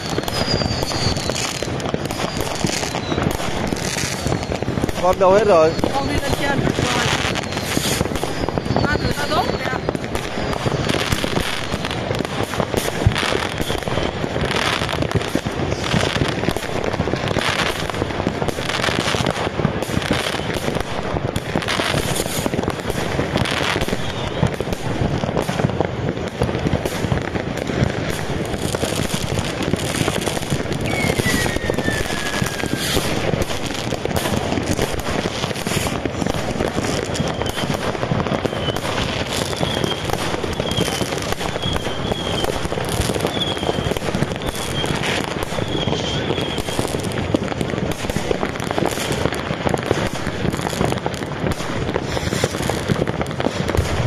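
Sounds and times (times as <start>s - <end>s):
firework falling whistle: 0.0s - 25.9s, 28.0s - 49.2s, 50.0s - 54.0s
firecracker bangs and crackling: 0.0s - 54.0s.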